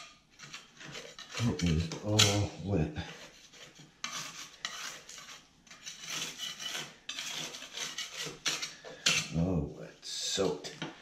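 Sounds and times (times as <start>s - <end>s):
putty knife scraping drywall: 0.0s - 9.6s.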